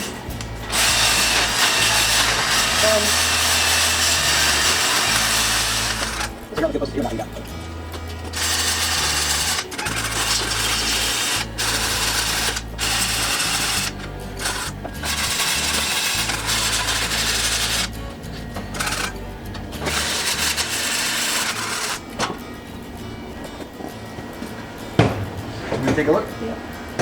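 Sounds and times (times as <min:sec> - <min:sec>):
welder arc crackling: 0:00.0 - 0:23.5.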